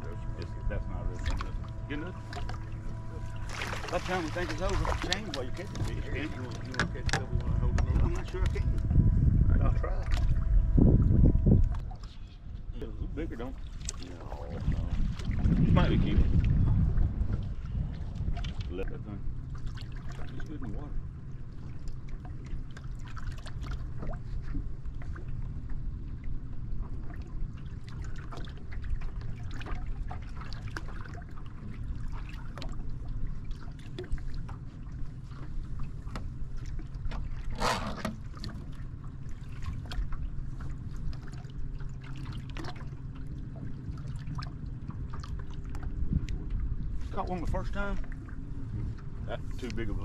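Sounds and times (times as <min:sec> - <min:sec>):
low wind rumble: 0:00.0 - 0:50.0
waves lapping against boat hull: 0:00.0 - 0:50.0.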